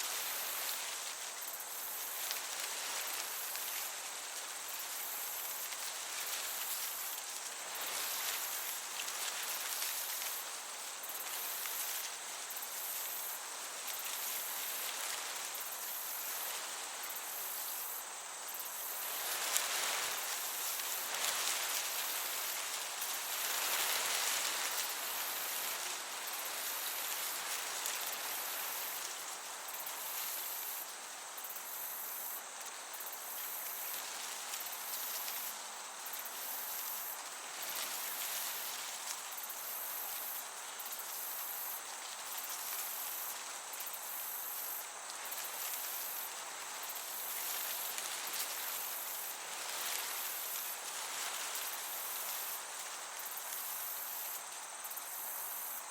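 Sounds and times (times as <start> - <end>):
breeze hiss: 0.0 - 55.9
crickets chirring: 0.0 - 55.9.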